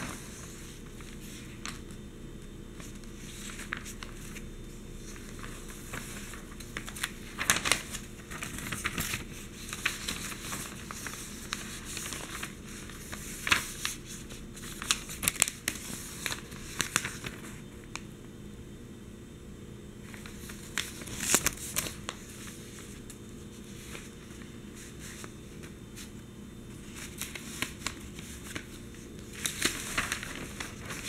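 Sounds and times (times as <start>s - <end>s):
newspaper rustling and crackling: 0.0s - 2.1s, 2.7s - 18.0s, 20.0s - 31.0s.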